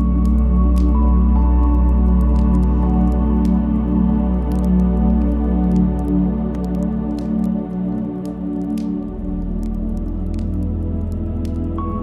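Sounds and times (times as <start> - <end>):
ambient synth pad chords: 0.0 - 12.0
log fire crackling: 0.0 - 12.0.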